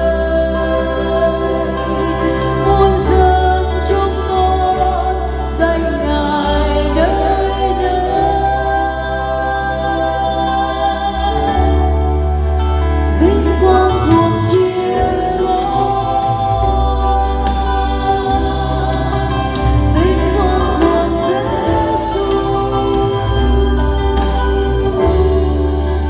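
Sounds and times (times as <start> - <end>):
instrumental accompaniment with bass: 0.0 - 26.0
people singing in harmony: 0.0 - 26.0.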